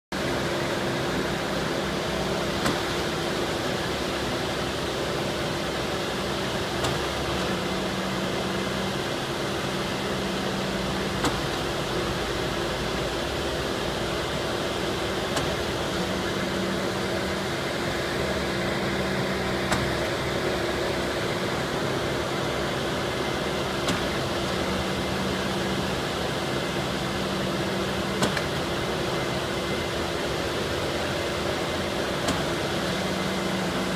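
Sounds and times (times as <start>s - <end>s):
concrete pump engine humming: 0.2s - 33.9s.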